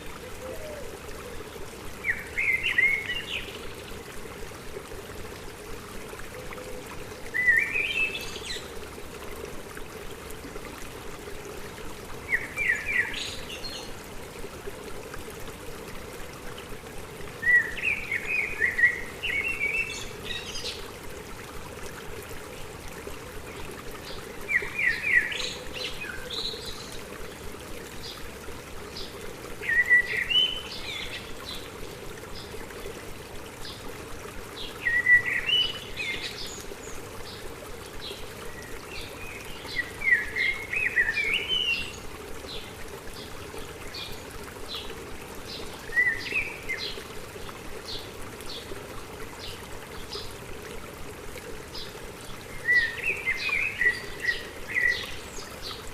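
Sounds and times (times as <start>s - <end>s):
stream rushing and trickling: 0.0s - 55.9s.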